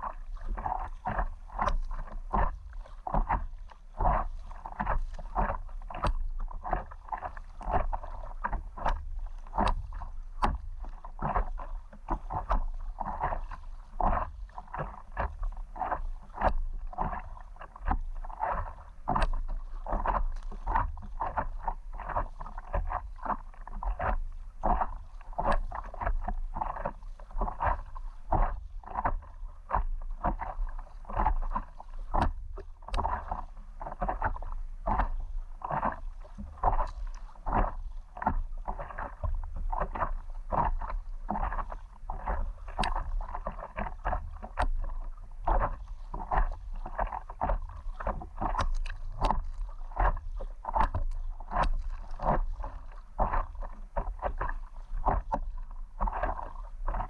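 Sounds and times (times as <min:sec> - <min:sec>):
paddle splashing water: 0:00.0 - 0:57.0.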